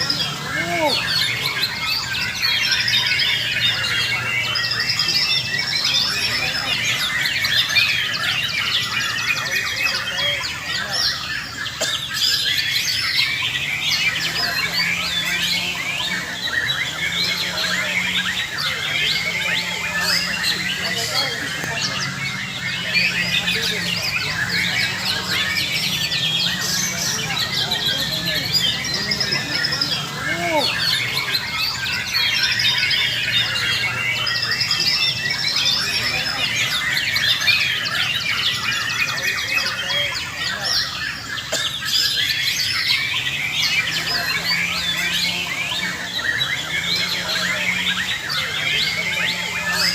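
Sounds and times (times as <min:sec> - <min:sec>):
songbirds singing and whistling: 0:00.0 - 0:49.9.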